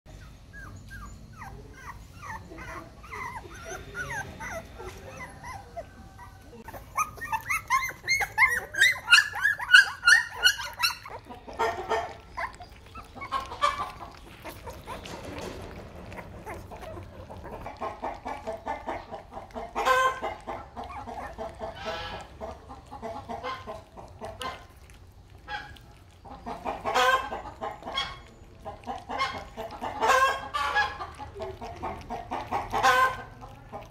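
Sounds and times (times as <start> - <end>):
puppies smacking and lapping: 0.1 - 33.9
puppies squealing and whimpering: 0.1 - 33.9.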